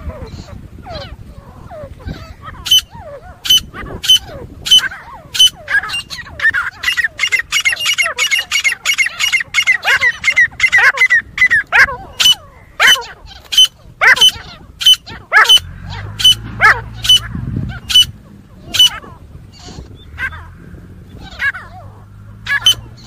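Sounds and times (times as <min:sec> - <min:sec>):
francolin calling: 0:00.1 - 0:23.0.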